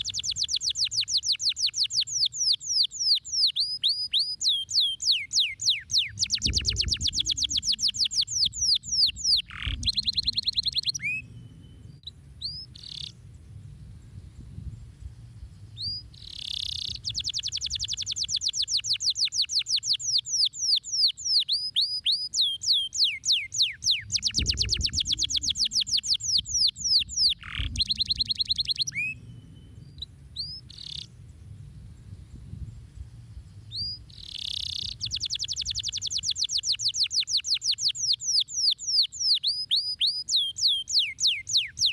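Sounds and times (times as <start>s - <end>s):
canary singing trills: 0.0s - 13.2s, 15.7s - 31.2s, 33.6s - 41.9s.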